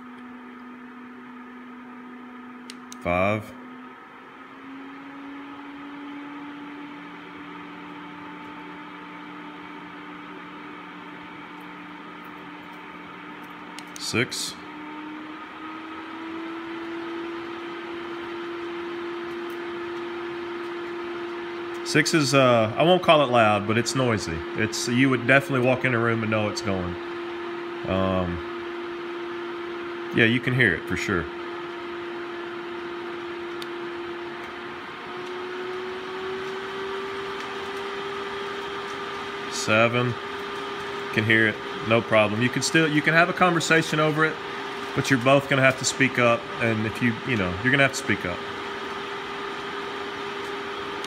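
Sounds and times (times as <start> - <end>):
duct fan rushing air: 0.0 - 51.0.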